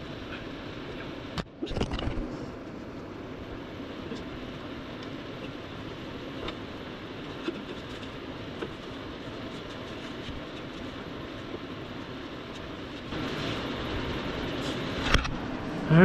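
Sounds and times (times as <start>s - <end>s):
steady droning noise: 0.0s - 16.0s.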